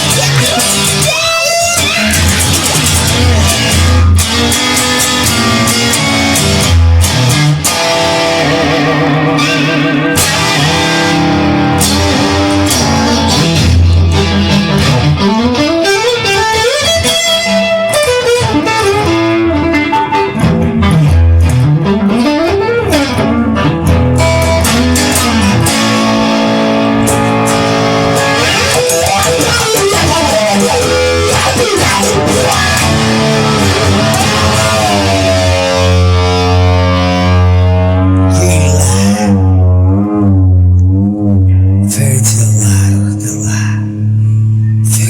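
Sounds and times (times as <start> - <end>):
steady bass: 0.0 - 17.7, 18.4 - 45.0
ringing guitar chord: 0.0 - 40.3
bending guitar lead: 0.0 - 45.0.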